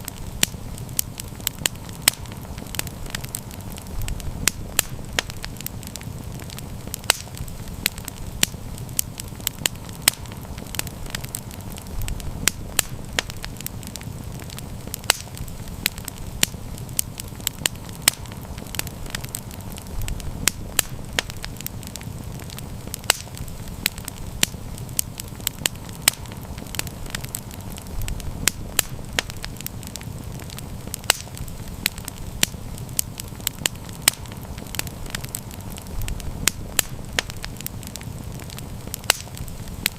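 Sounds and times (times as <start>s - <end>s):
campfire crackling and popping: 0.0s - 39.9s
low rumble of flame: 0.0s - 39.9s.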